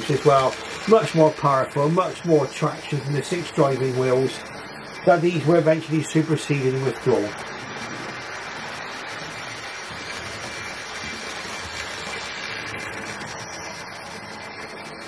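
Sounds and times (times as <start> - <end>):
model train whirring on rails: 0.0 - 15.0.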